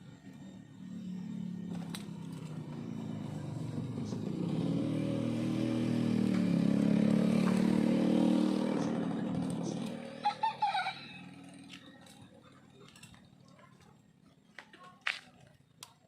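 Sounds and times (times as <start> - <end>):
small engine running: 0.0 - 14.4.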